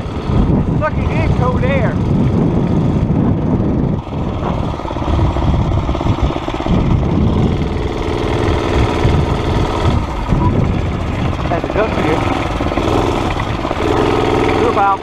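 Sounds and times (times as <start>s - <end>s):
mini bike engine running: 0.0s - 15.0s.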